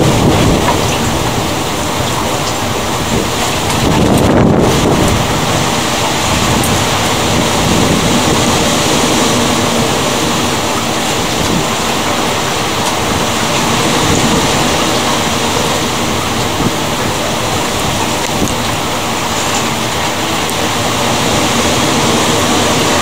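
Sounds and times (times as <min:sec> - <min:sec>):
heavy rain: 0:00.0 - 0:23.0
wind: 0:00.0 - 0:23.0.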